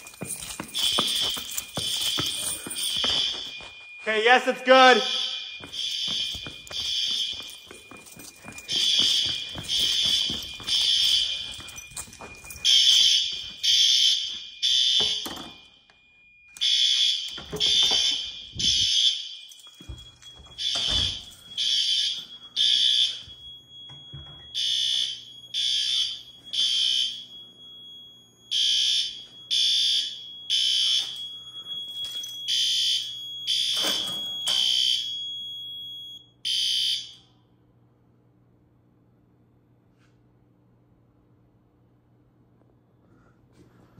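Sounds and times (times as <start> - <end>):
fire alarm horns blasting: 0.0 - 37.5.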